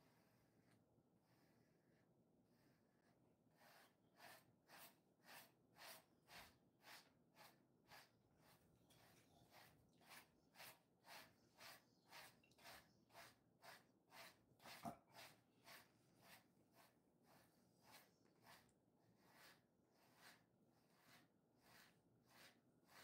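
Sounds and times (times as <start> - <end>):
brush swishing through dog fur: 3.6 - 23.0.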